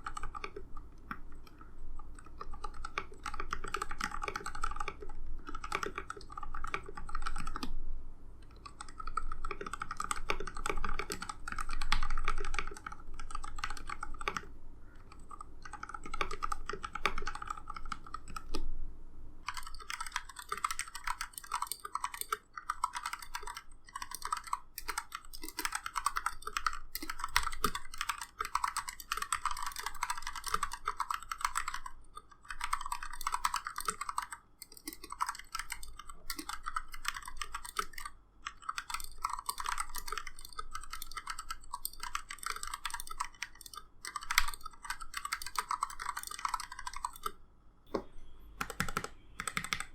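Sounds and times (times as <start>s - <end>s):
typing on mechanical keyboard: 0.0s - 7.8s, 8.4s - 18.7s, 19.4s - 47.4s, 48.6s - 49.9s.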